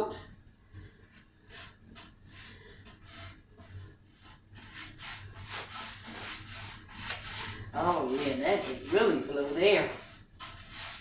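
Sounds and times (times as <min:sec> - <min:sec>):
paintbrush bristle swishes: 0:01.4 - 0:11.0.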